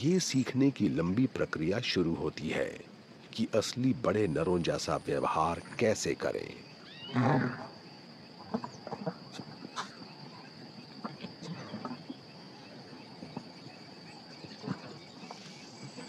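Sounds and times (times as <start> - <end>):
high insect chirring: 0.0 - 16.0.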